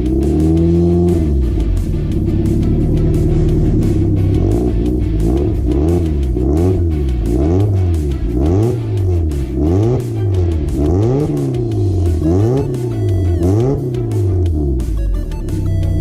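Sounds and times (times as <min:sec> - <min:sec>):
car engine revving through loud exhaust: 0:00.0 - 0:15.0
background music: 0:00.0 - 0:16.0.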